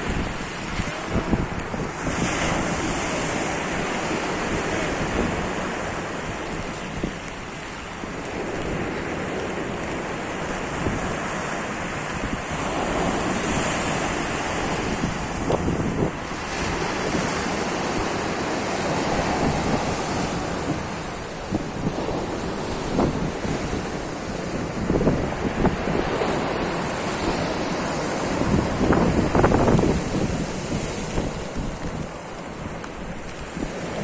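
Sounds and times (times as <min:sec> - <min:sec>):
sea waves breaking: 0:00.0 - 0:34.0
wind buffeting microphone: 0:00.0 - 0:34.0.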